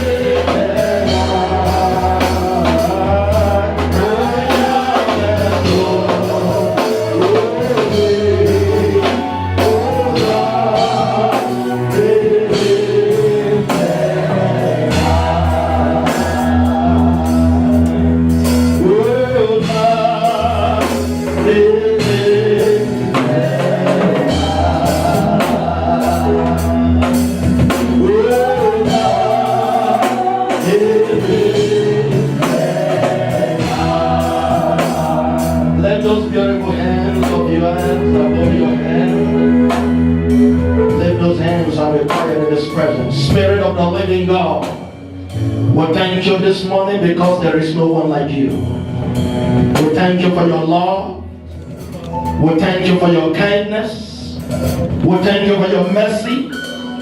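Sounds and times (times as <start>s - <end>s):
deep bass line: 0.0s - 57.0s
drum kit: 0.0s - 57.0s
gospel singing: 0.0s - 57.0s.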